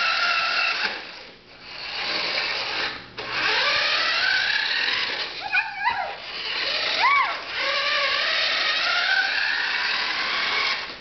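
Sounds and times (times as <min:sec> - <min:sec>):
toy truck motor and gears whirring: 0:00.0 - 0:11.0.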